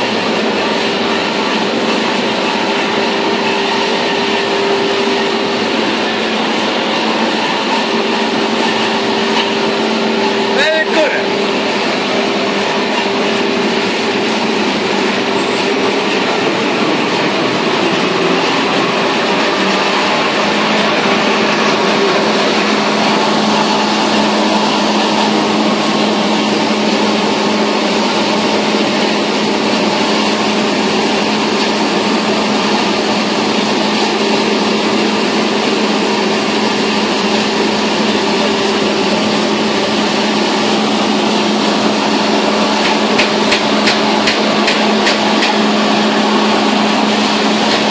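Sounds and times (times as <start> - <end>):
machine whirring: 0.0 - 47.9
steady hum: 0.0 - 47.9.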